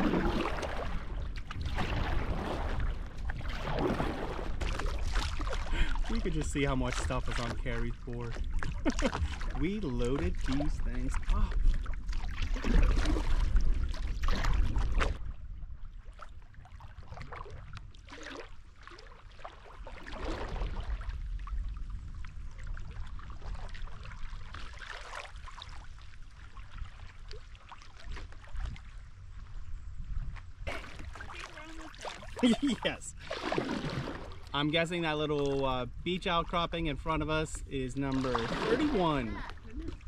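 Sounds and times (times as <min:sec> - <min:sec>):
trickling water: 0:00.0 - 0:29.0, 0:30.6 - 0:40.0
paddle strokes splashing water: 0:00.0 - 0:29.6, 0:30.2 - 0:40.0
wind rumble on microphone: 0:00.0 - 0:40.0.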